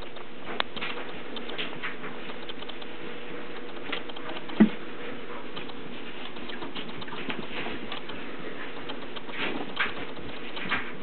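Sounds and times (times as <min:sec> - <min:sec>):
paws pattering and scratching: 0:00.0 - 0:11.0.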